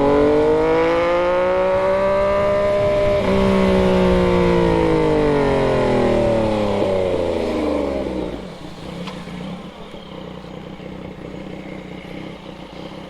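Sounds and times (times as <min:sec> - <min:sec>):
motorcycle engine idling: 0:02.2 - 0:13.0.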